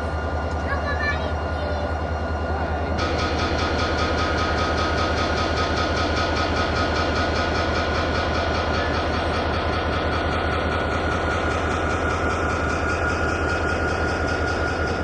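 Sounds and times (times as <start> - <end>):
train rolling on rails: 0.0 - 15.0.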